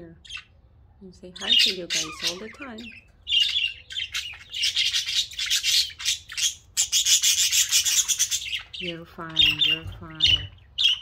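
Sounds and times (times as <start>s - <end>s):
budgies chattering and warbling: 0.0s - 11.0s.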